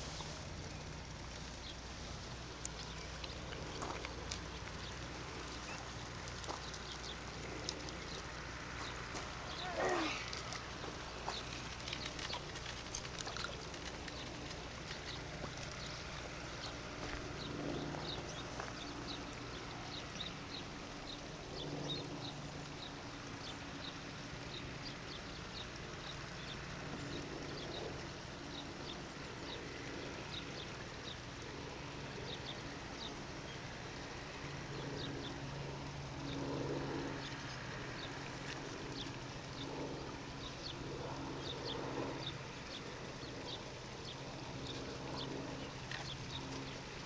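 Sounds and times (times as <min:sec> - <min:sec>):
small birds chirping: 0:00.0 - 0:33.8, 0:34.4 - 0:47.0
low steady hum: 0:00.0 - 0:47.0.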